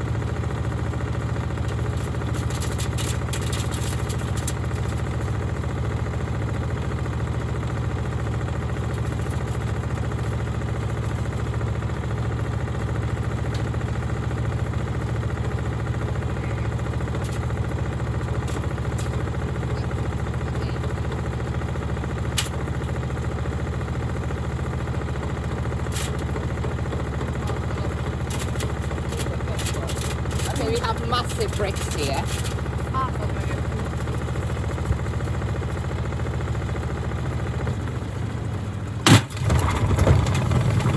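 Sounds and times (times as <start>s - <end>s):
washing machine drone with bricks: 0.0s - 40.9s.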